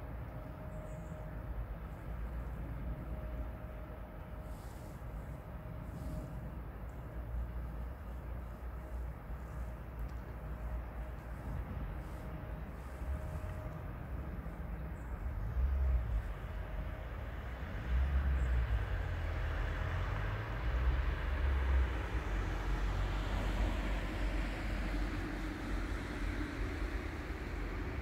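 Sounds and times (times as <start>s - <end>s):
motor vehicle rumbling: 0.0s - 28.0s.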